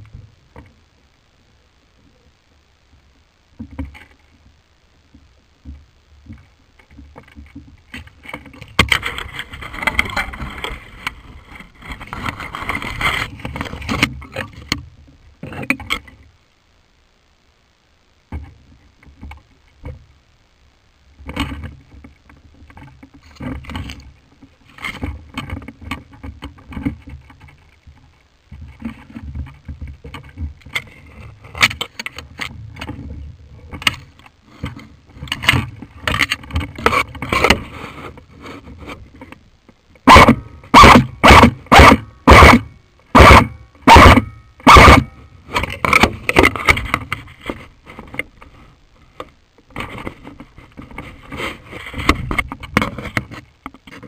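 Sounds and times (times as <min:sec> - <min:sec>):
rustling and scraping: 0:03.6 - 0:16.3, 0:21.2 - 0:54.0.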